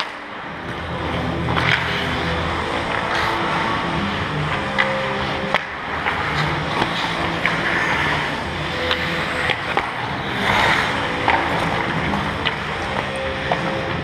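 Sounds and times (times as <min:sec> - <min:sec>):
skates scraping on ice: 0:00.0 - 0:14.0
sticks and puck clacking: 0:00.0 - 0:14.0.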